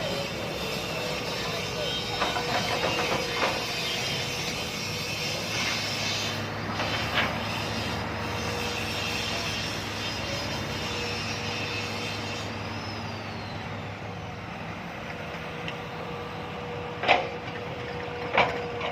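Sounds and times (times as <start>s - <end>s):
diesel machinery engine hum: 0.0s - 18.9s.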